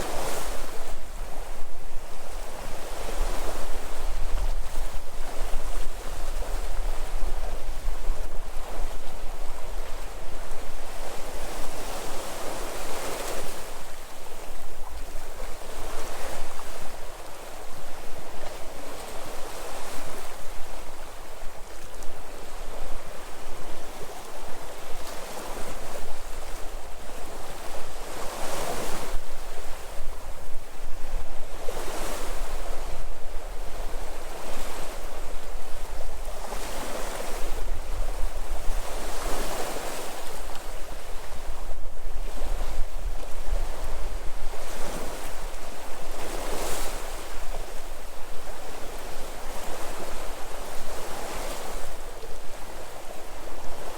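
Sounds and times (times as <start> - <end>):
sea waves breaking on shore: 0.0 - 53.9
wind rumble on microphone: 0.0 - 53.9.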